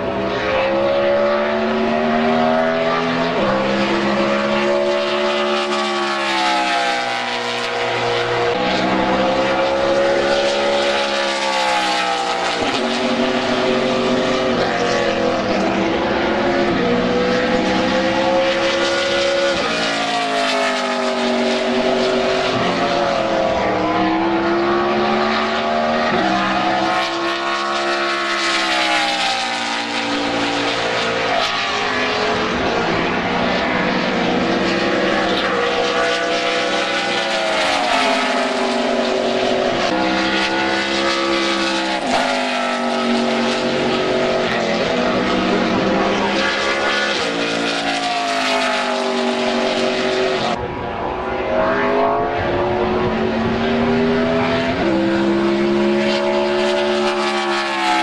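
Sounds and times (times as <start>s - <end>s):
race car engines passing: 0.0s - 58.0s.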